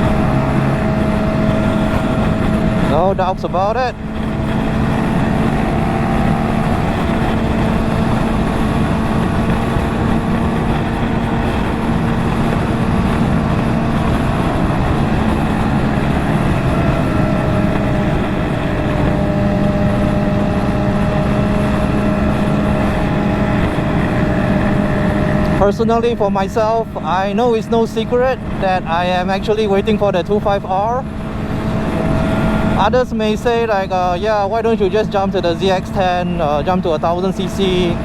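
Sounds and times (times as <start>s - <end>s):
motorcycle engine cruising: 0.0s - 38.0s
wind rush: 0.0s - 38.0s.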